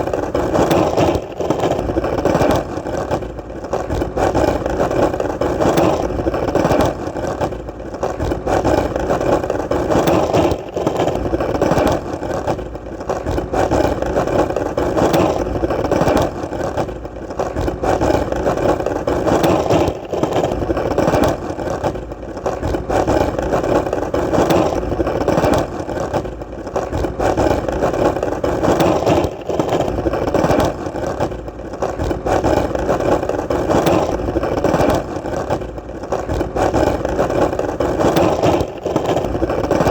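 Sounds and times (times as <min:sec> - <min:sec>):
skateboard wheels rolling: 0:00.0 - 0:39.9.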